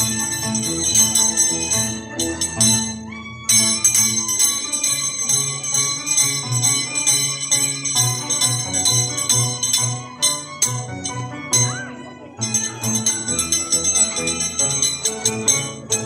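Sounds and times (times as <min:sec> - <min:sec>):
harp plucked notes: 0:00.0 - 0:16.0
steel blades clinking: 0:00.0 - 0:16.0
violin: 0:00.0 - 0:16.0.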